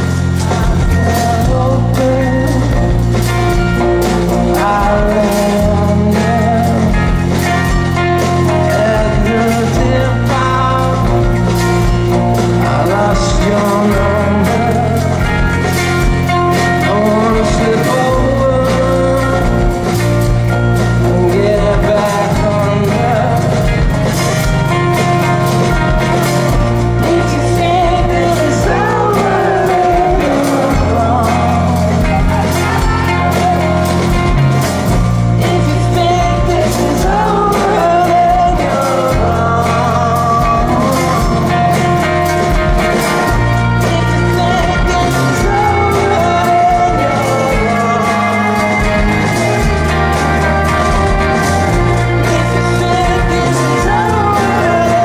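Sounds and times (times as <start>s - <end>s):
male vocal singing: 0.0s - 3.3s, 4.0s - 11.6s, 12.4s - 15.5s, 16.7s - 20.0s, 20.9s - 23.8s, 27.0s - 55.0s
bass guitar: 0.0s - 55.0s
electric guitar: 0.0s - 55.0s.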